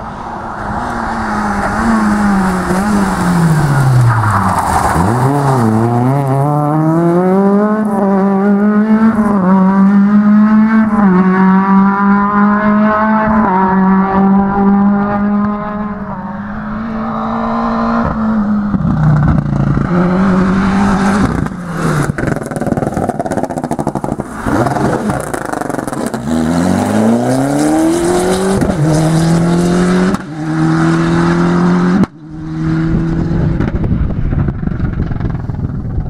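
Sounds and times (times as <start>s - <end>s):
rally car engine revving: 0.1s - 36.0s.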